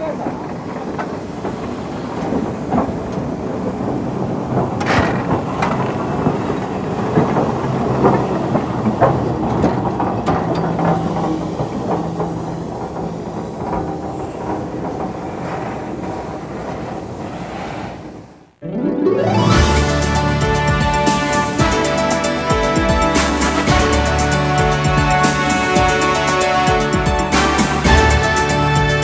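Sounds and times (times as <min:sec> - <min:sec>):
steam hissing: 0:00.0 - 0:18.6, 0:19.5 - 0:29.0
steam locomotive wheels clattering: 0:00.0 - 0:18.6, 0:19.4 - 0:29.0.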